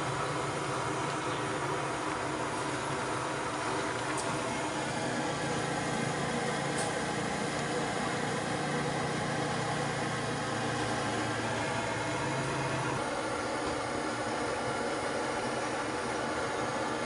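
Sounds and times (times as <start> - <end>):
low steady hum: 0.0 - 17.0
soup boiling with a steady hiss: 0.0 - 17.0.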